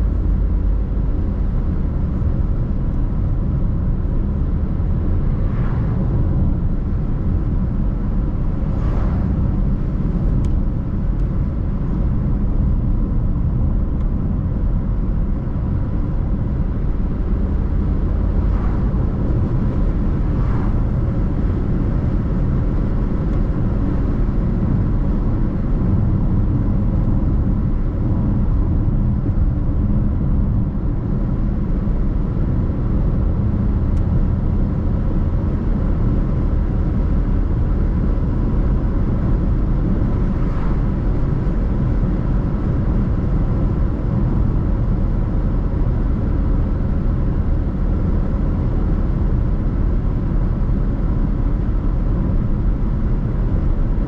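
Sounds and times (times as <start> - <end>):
car tyres and engine rumble: 0.0 - 54.0
passing traffic: 0.0 - 54.0.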